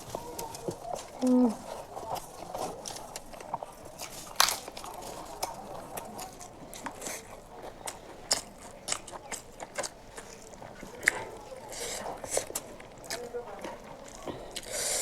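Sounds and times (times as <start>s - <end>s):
person chewing with wet smacks: 0.1s - 15.0s.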